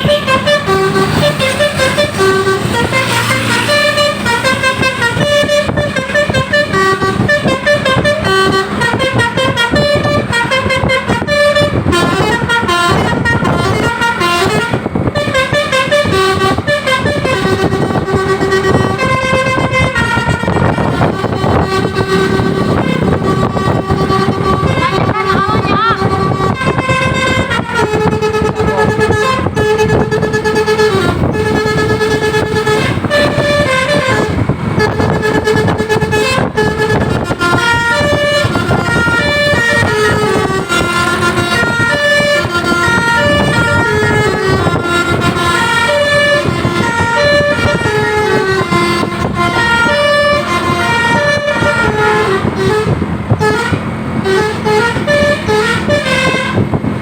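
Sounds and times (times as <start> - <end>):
low rumble of bus engines: 0.0 - 57.0
multi-tone bus horns playing melodies: 0.0 - 57.0.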